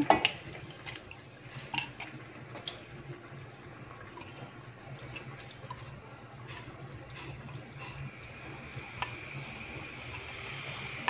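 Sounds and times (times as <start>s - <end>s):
soft sizzle: 0.0s - 11.0s.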